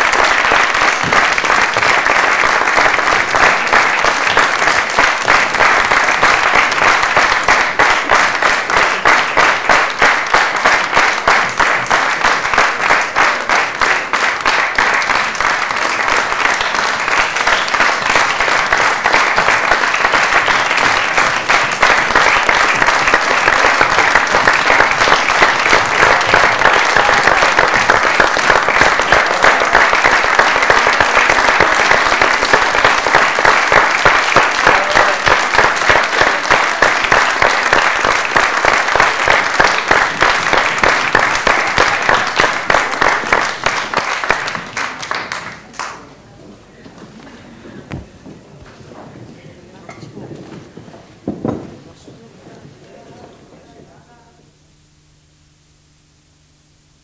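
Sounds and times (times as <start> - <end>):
audience applauding: 0.0 - 54.1.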